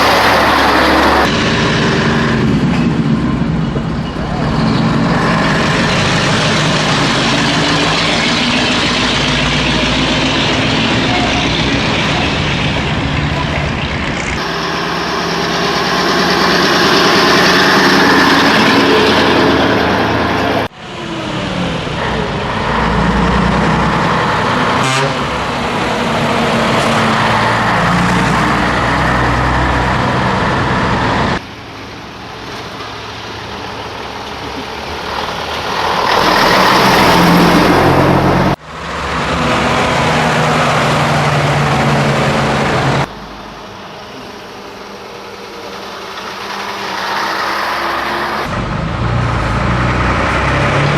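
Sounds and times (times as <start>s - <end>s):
road and wind noise: 0.0s - 50.9s
truck diesel engine running: 0.0s - 50.9s.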